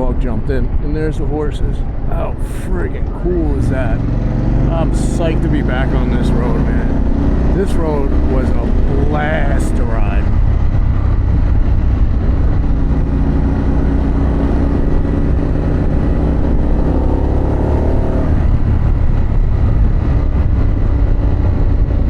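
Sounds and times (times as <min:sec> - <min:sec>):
motorcycle engine accelerating: 0:01.8 - 0:22.0.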